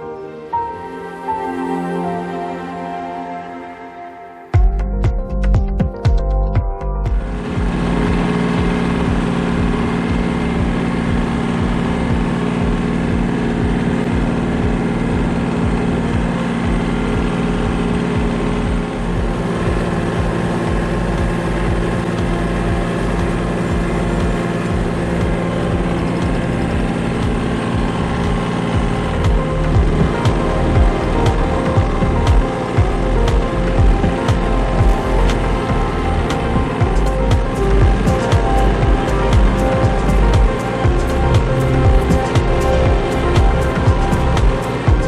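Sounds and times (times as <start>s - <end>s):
tractor diesel engine running: 6.3s - 45.0s.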